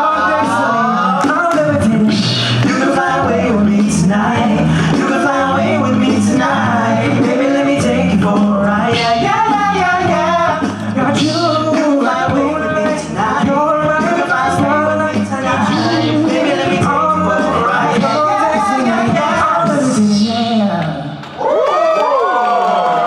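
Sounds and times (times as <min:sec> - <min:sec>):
male a cappella group singing: 0:00.0 - 0:20.8.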